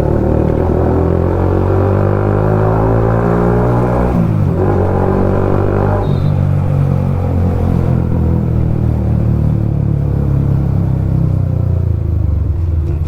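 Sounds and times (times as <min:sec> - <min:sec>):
motorcycle exhaust note: 0:00.0 - 0:13.0.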